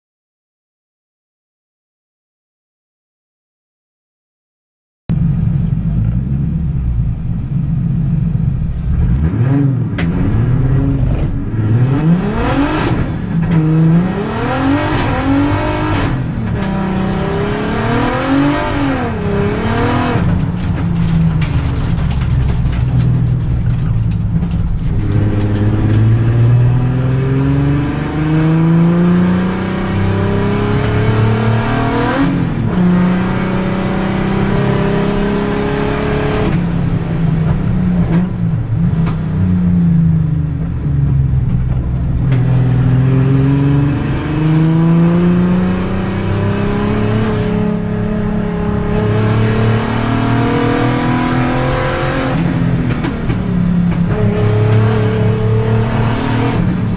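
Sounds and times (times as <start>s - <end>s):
race car engine accelerating: 5.1s - 56.9s
road and tyre noise: 5.1s - 56.9s.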